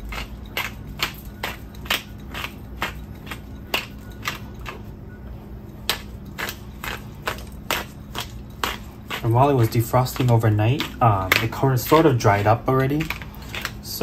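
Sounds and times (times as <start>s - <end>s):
pepper grinder crunching: 0.0s - 4.8s, 5.8s - 14.0s.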